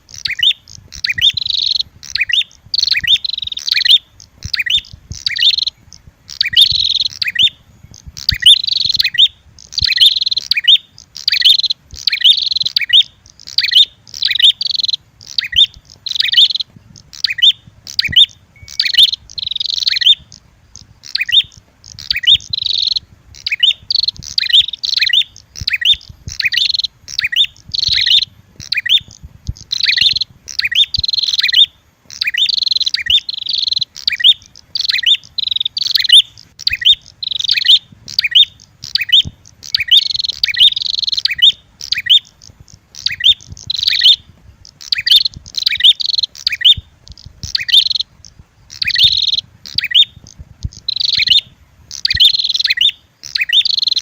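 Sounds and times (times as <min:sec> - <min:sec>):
bird chirping calls: 0:00.0 - 0:54.0
bird fighting calls: 0:00.0 - 0:54.0.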